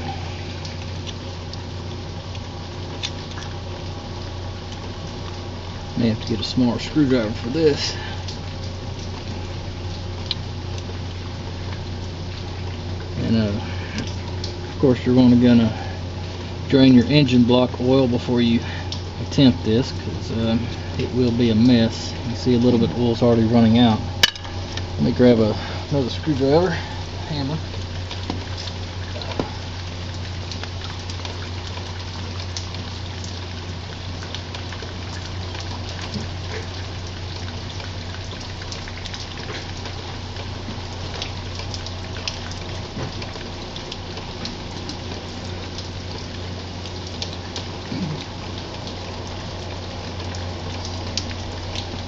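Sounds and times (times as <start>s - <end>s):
low hum: 0.0s - 52.0s.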